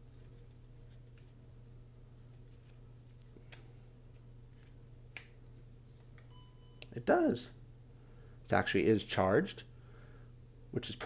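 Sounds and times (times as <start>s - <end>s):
faint steady low hum: 0.0s - 11.0s.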